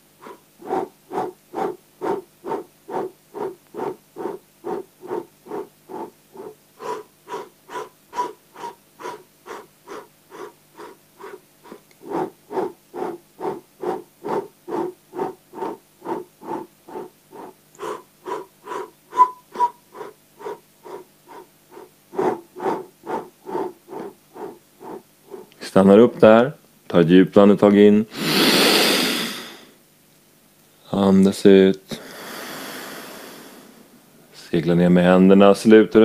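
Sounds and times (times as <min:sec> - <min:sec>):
man breathing in short puffs: 0:00.2 - 0:25.5, 0:28.1 - 0:29.8, 0:31.9 - 0:33.9.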